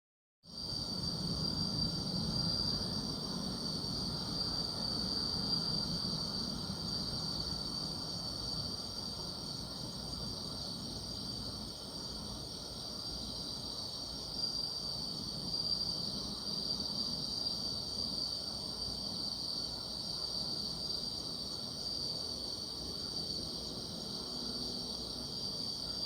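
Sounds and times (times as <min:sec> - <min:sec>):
crickets chirring: 0:00.5 - 0:26.0.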